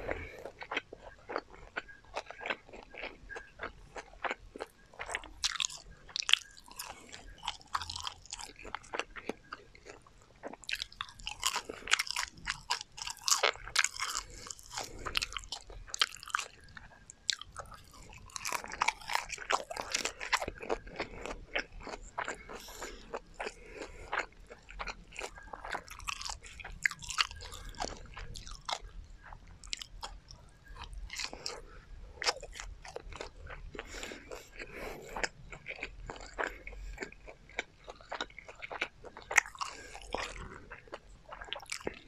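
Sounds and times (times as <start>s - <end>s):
chewing crispy fried chicken: 0.0s - 42.0s.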